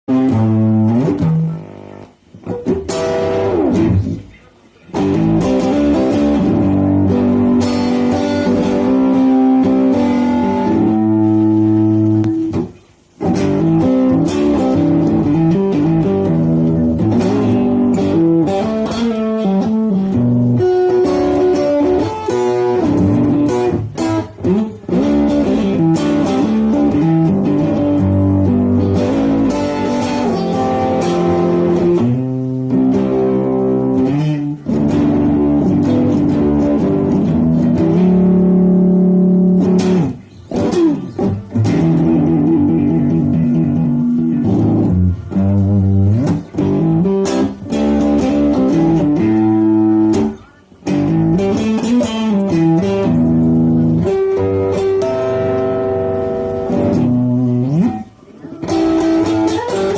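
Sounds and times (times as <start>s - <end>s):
guitar plucked notes and chords: 0.0s - 59.9s.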